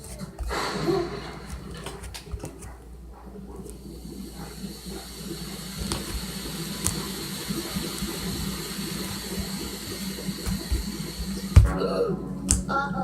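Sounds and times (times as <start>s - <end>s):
liquid bubbling and fizzing: 0.1s - 2.6s, 3.4s - 11.8s.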